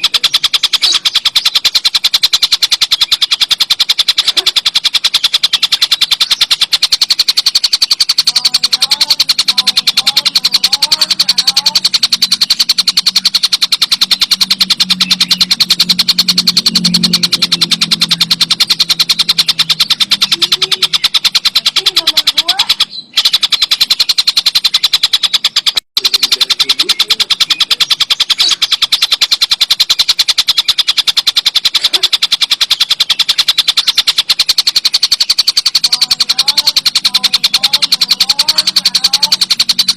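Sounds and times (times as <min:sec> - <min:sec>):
bird rattling clicks: 0:00.0 - 0:39.9.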